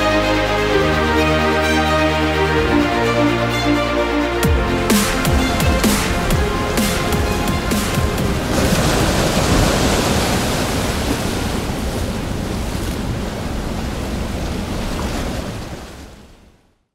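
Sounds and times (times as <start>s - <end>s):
ocean surf rushing: 0.0s - 16.4s.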